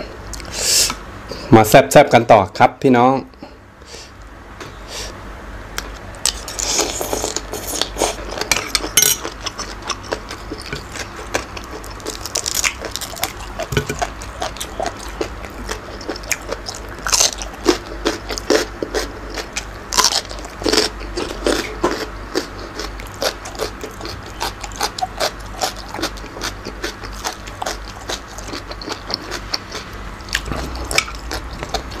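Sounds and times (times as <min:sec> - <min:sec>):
man chewing and crunching food: 0:00.0 - 0:01.4, 0:05.8 - 0:32.0.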